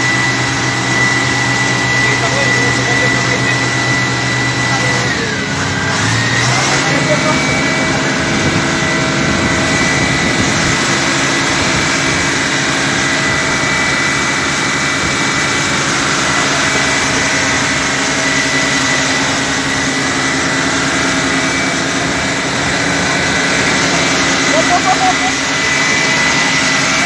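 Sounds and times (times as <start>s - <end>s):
aircraft engines whining: 0.0s - 27.0s.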